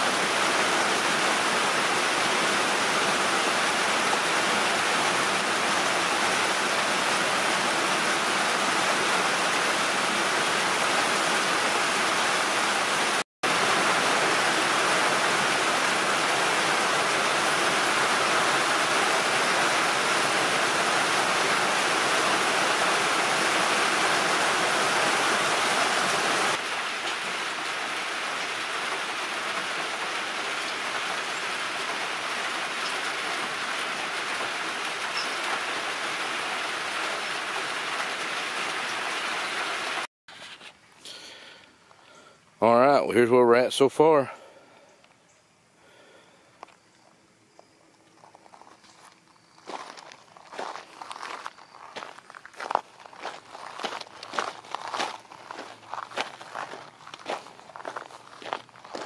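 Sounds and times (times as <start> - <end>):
heavy rain falling: 0.0 - 40.1, 49.7 - 59.0.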